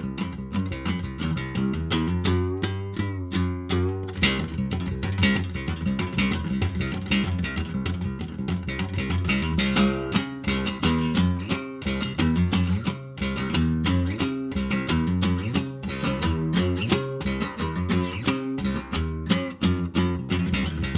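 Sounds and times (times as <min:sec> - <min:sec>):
picked and strummed guitar: 0:00.0 - 0:20.9.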